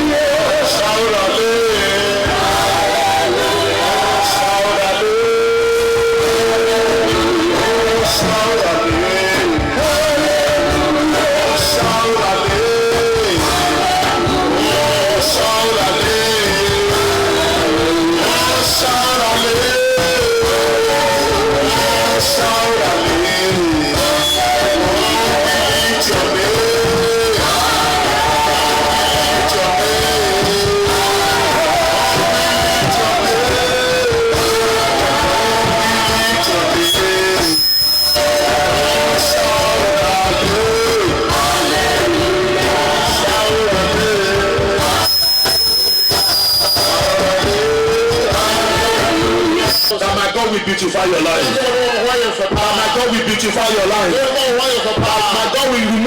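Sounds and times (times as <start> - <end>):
held sung melody: 0.0 - 50.0
band playing praise music: 0.0 - 56.0.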